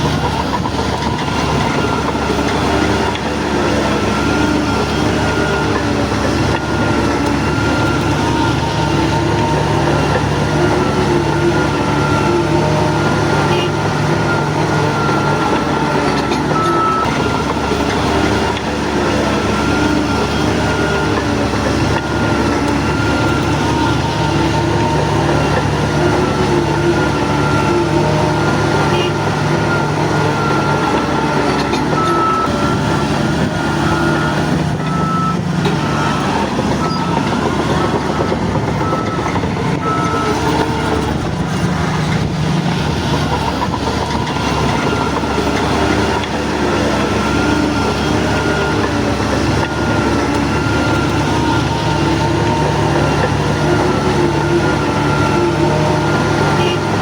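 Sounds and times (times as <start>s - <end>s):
bulldozer diesel engine under load: 0.0s - 57.0s
steel tracks clanking: 0.0s - 57.0s.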